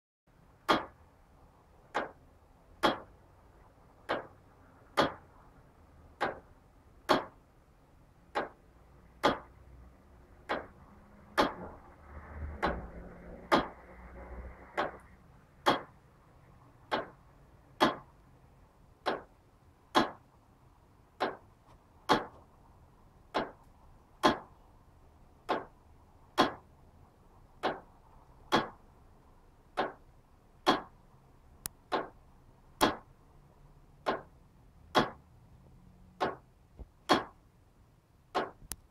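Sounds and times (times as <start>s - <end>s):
faint low rumble: 0.3s - 38.9s
tower clock ticking: 0.4s - 35.4s, 36.0s - 37.6s, 38.3s - 38.9s.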